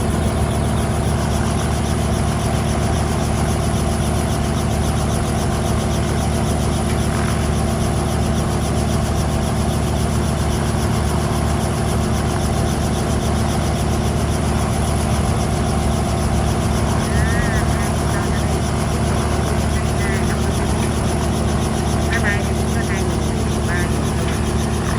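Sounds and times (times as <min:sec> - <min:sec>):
small airplane engine running: 0:00.0 - 0:24.9.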